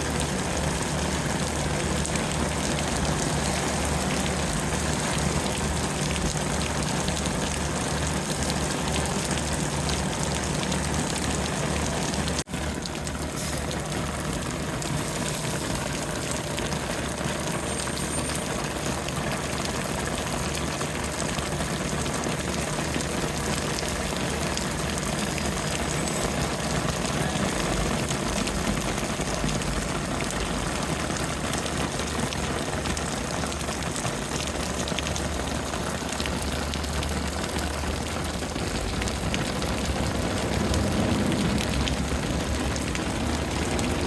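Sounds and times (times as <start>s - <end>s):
fire engine diesel engine running: 0.0s - 44.0s
heavy rain falling: 0.0s - 44.0s.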